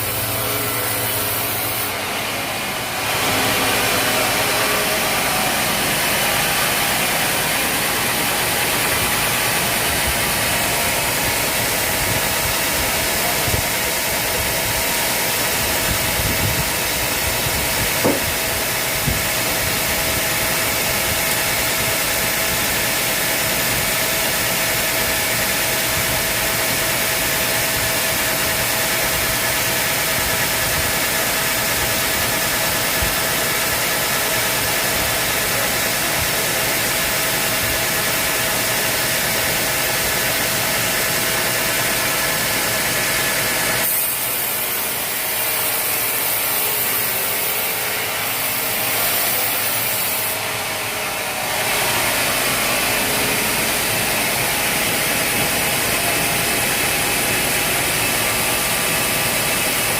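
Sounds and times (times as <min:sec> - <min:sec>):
sawmill machinery sawing timber: 0:00.0 - 0:59.9.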